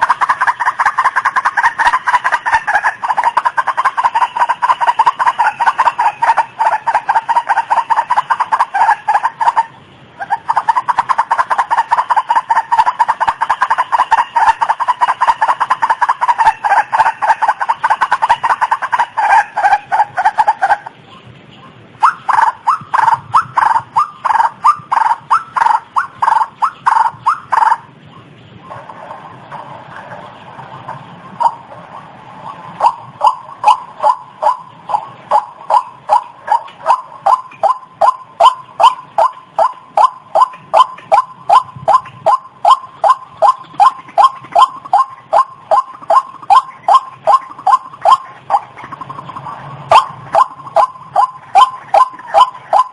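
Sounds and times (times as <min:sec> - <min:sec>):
waterhen croaking calls: 0:00.0 - 0:52.9.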